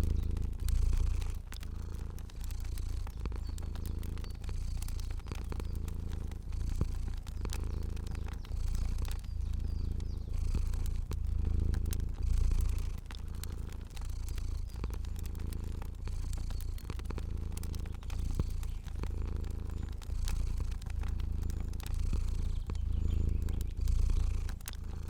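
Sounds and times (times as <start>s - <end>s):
cat purring: 0.0s - 25.0s
crackling fire pops: 0.0s - 25.0s.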